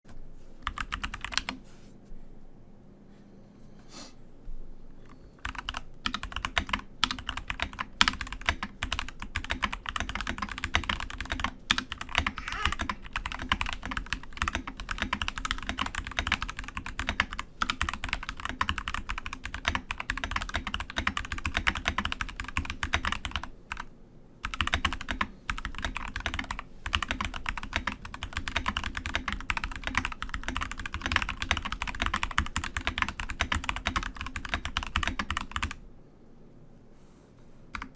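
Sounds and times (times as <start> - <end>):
mechanical keyboard typing: 0.6 - 1.6, 5.4 - 35.8.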